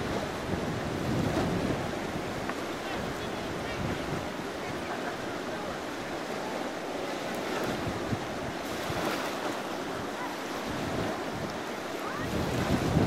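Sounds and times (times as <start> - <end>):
wind buffeting microphone: 0.0 - 4.9, 7.0 - 13.0
river current rushing: 0.0 - 13.0.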